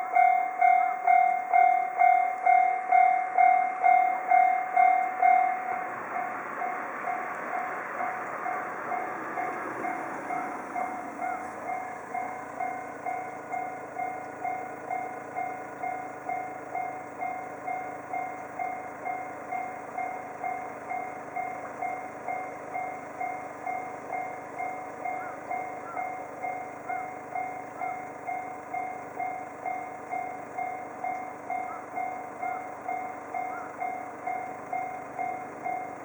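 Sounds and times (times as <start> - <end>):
passing train rumble: 0.0 - 36.0
railroad crossing bell ringing: 0.0 - 36.0.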